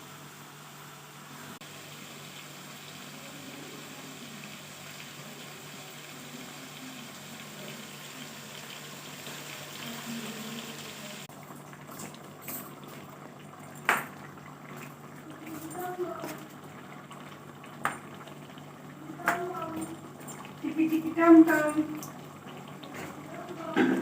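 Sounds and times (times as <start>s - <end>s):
chicken sizzling in a pan: 0.0s - 24.0s.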